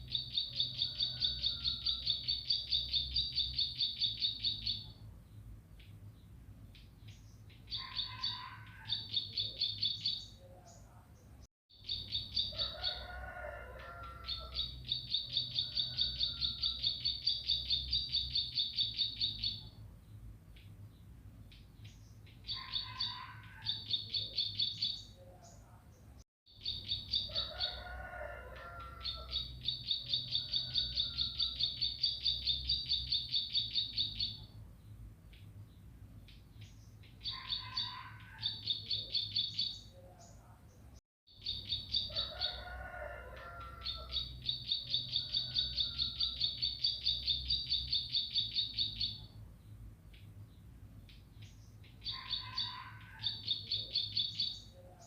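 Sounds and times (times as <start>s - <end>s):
small bird singing trills: 0.0s - 10.9s, 11.7s - 13.0s, 14.2s - 25.7s, 26.5s - 27.7s, 29.0s - 40.4s, 41.3s - 42.6s, 43.8s - 54.8s.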